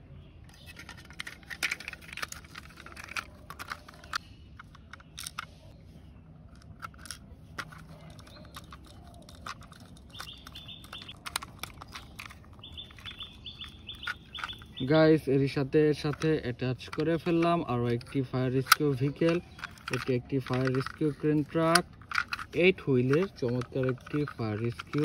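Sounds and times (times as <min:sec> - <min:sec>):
bird chirping: 0:00.0 - 0:02.0, 0:02.7 - 0:07.0, 0:07.6 - 0:25.0
toy parts clicking together: 0:00.5 - 0:05.6, 0:06.4 - 0:25.0.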